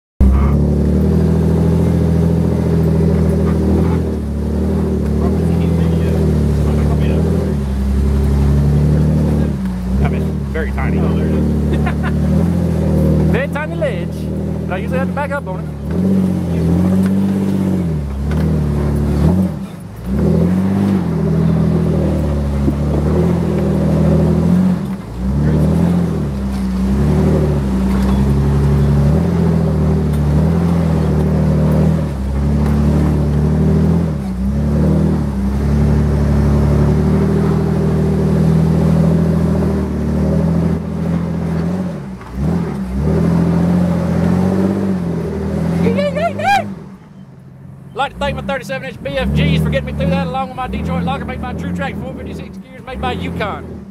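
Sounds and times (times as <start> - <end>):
car engine revving: 0.2 - 53.9.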